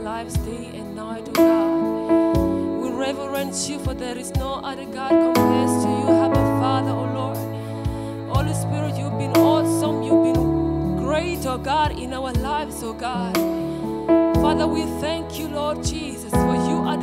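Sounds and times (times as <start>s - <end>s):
keyboard gospel chords: 0.0s - 17.0s
woman singing softly: 0.0s - 17.0s.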